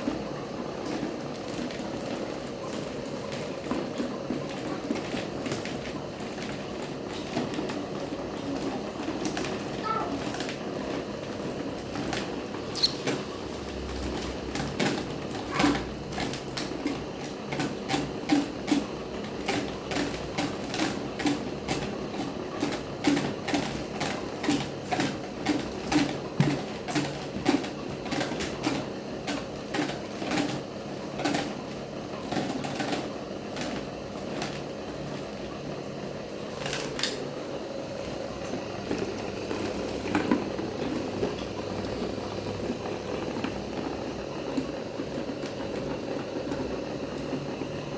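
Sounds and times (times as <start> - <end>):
electric fan motor hum: 0.0 - 47.9.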